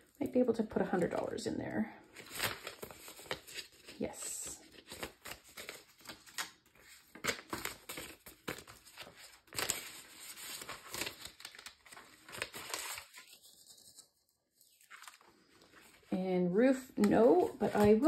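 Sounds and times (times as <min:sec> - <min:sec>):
banknotes crinkling and rustling: 0:02.0 - 0:16.1, 0:16.7 - 0:18.0.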